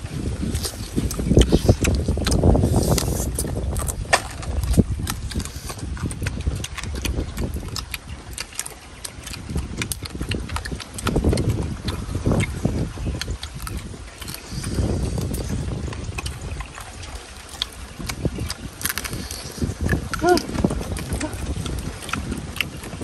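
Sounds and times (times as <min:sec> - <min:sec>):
chewing and lip smacking: 0:00.2 - 0:23.0
wet mouth clicks: 0:00.4 - 0:23.0.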